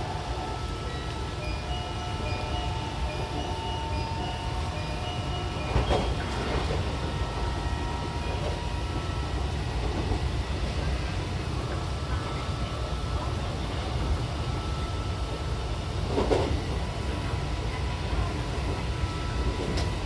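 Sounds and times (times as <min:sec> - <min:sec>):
train wheels rumbling on rails: 0:00.0 - 0:20.0
train clatter: 0:00.7 - 0:14.5, 0:16.0 - 0:20.0.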